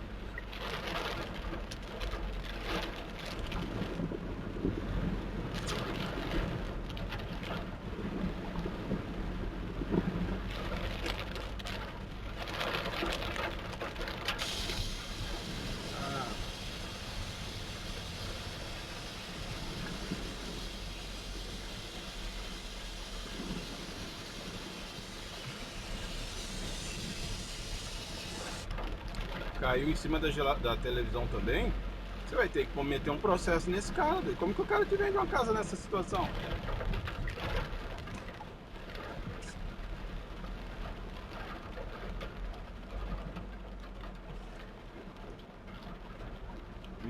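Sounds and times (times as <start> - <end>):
car engine and tyres rumbling: 0.0 - 47.0
heavy rain on a car: 0.0 - 47.0.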